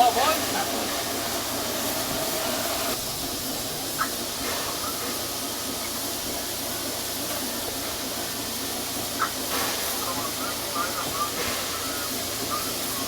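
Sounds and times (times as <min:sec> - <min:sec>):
steam hissing from locomotive: 0:00.0 - 0:13.0.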